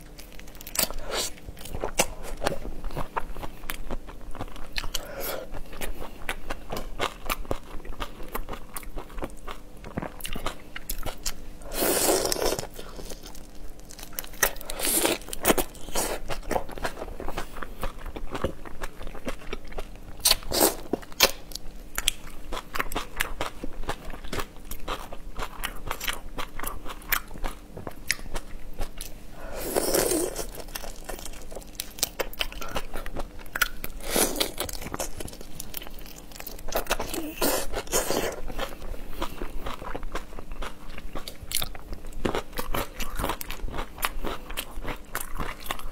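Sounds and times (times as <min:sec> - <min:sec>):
wet chewing and crunching: 0:00.0 - 0:45.9.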